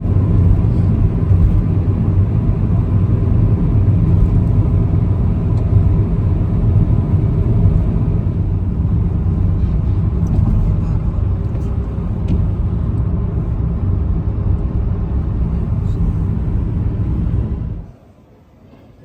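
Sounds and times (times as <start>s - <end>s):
car cabin road and engine rumble: 0.0s - 18.0s.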